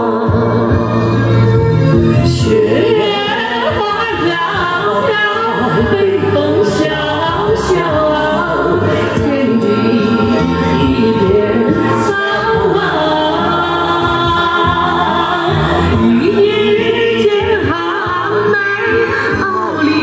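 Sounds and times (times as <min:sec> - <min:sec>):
woman singing: 0:00.0 - 0:01.2, 0:02.1 - 0:20.0.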